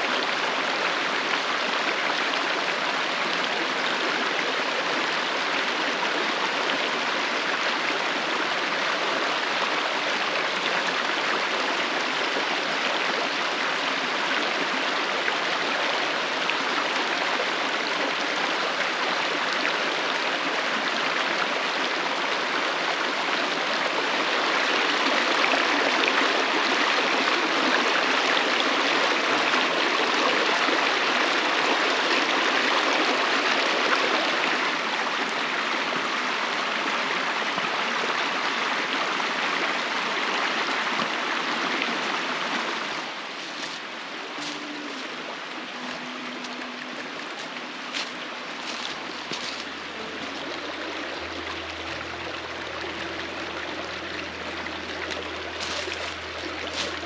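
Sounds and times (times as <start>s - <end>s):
creek flowing over stones: 0.0s - 57.0s.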